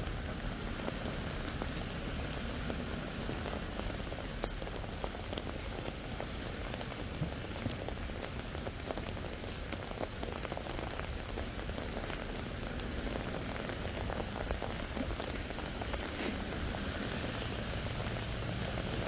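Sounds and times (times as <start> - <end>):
raindrops ticking on an umbrella: 0.0 - 19.0
steady rain falling: 0.0 - 19.0.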